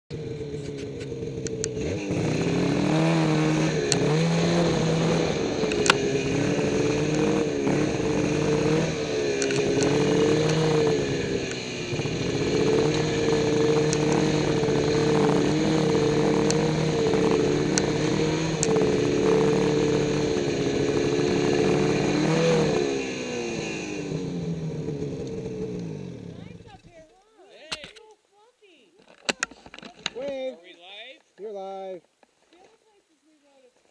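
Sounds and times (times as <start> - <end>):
snowmobile engine running: 0.1 - 27.4.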